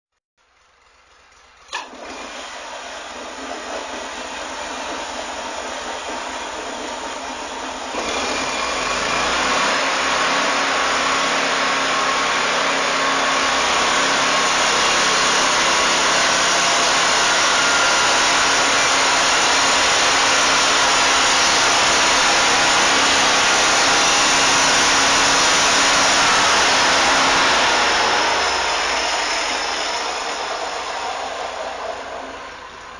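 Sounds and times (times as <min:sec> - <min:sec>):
band sawmill whirring drone: 0:01.9 - 0:32.9.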